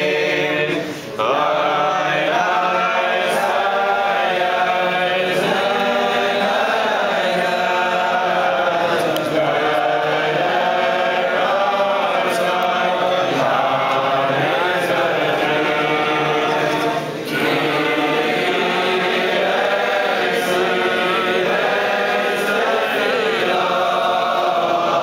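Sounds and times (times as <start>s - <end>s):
men singing a prayer together: 0.0s - 25.0s.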